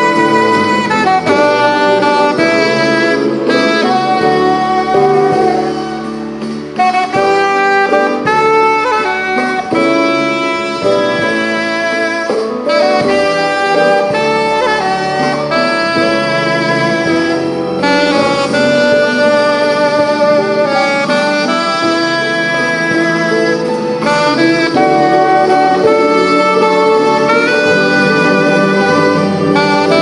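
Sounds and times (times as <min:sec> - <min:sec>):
alto saxophone melody: 0:00.0 - 0:30.0
instrumental accompaniment: 0:00.0 - 0:30.0.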